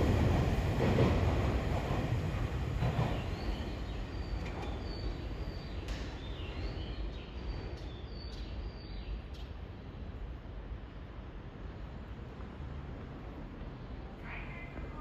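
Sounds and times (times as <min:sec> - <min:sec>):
low train rumble: 0:00.0 - 0:15.0.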